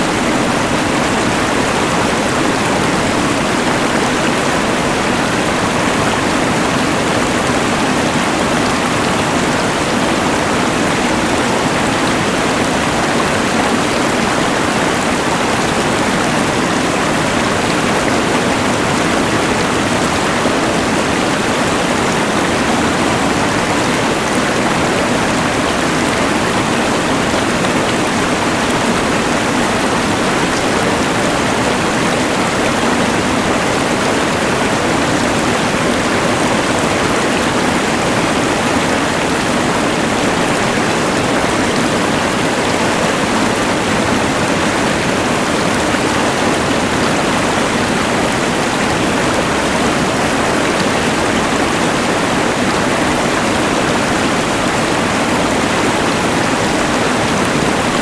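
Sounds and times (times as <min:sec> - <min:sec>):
rushing river: 0:00.0 - 0:58.0.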